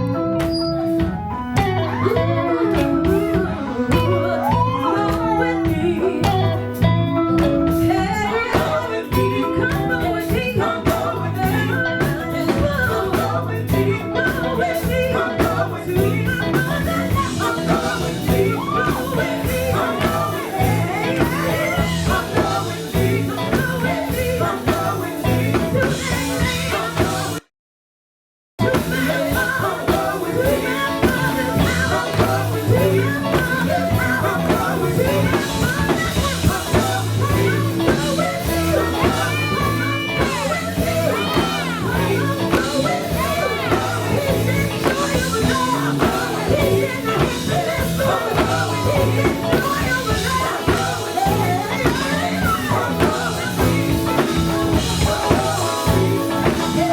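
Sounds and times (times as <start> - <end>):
live gospel band: 0.0 - 27.4, 28.6 - 56.9
person singing: 0.9 - 27.4, 28.6 - 56.9.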